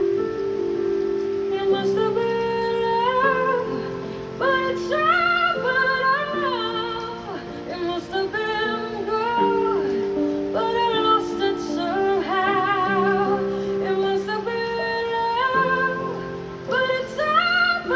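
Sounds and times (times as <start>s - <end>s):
woman singing: 1.3s - 17.9s.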